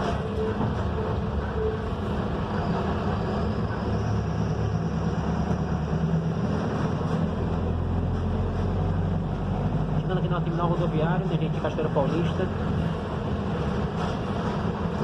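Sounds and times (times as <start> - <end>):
bus engine running: 0.0 - 15.0
road noise: 0.0 - 15.0.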